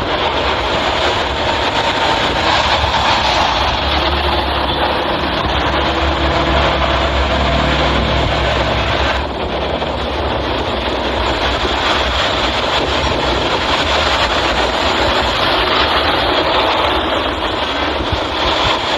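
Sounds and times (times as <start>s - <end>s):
rushing road and wind noise: 0.0s - 18.9s
truck engine drone: 0.0s - 18.9s.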